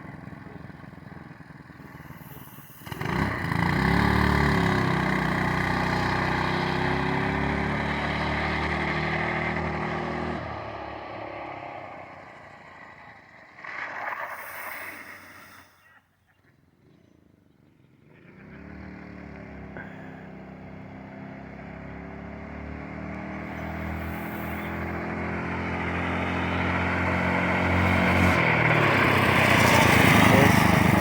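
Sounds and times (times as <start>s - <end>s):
small trike engine approaching: 0.0s - 31.0s.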